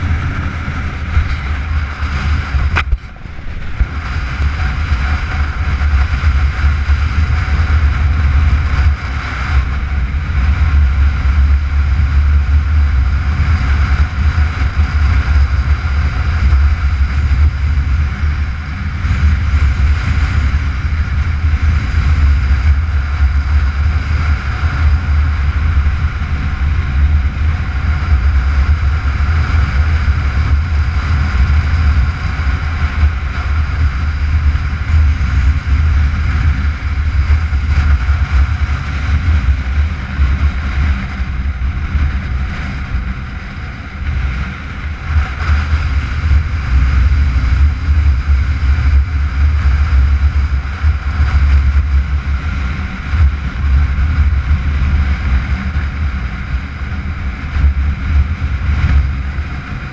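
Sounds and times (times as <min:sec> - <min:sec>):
motorcycle engine running: 0:00.0 - 0:59.9
wind rushing over camera: 0:00.0 - 0:59.9.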